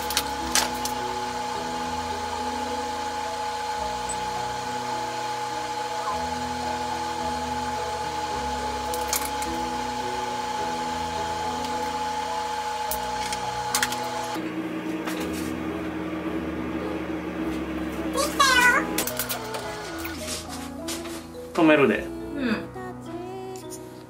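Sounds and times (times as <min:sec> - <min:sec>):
motor hum with high whine: 0:00.0 - 0:23.7
soft background music: 0:00.0 - 0:24.0.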